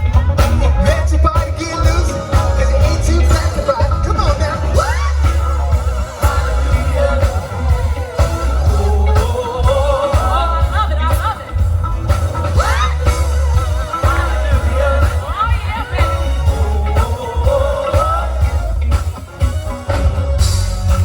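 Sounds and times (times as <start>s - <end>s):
person singing: 0.0s - 19.6s
heavy bass line: 0.0s - 21.0s
live funk band playing: 0.0s - 21.0s
steady drum beat: 0.0s - 21.0s.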